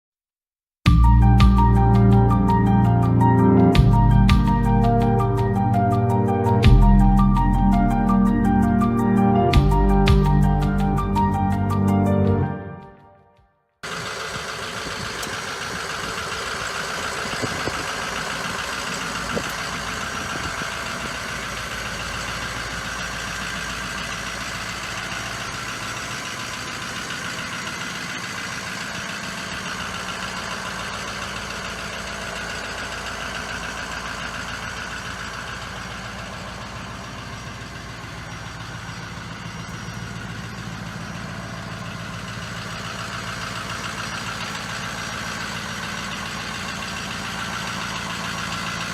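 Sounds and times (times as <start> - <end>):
diesel truck engine idling: 0.9 - 12.6, 13.8 - 48.9.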